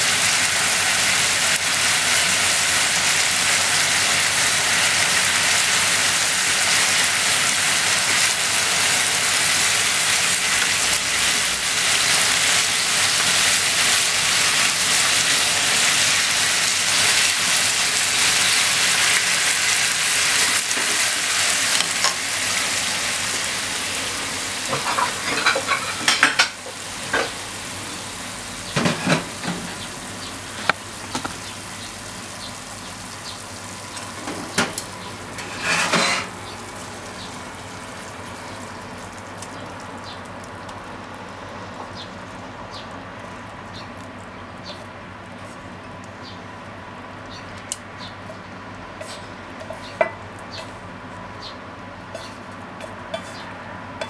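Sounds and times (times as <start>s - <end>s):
food sizzling in a frying pan: 0.0s - 42.2s, 47.4s - 54.0s.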